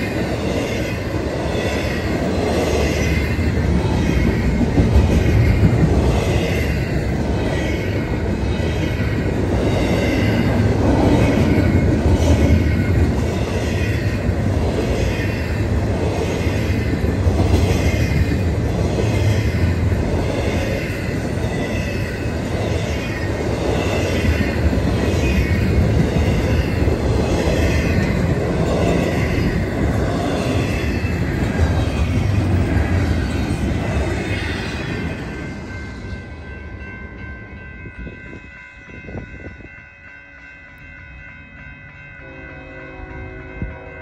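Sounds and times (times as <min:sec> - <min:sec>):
freight train rumbling and rattling: 0:00.0 - 0:39.8.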